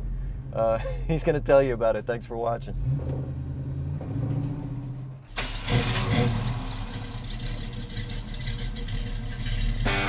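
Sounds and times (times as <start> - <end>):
car engine rumbling and revving: 0.0 - 10.0.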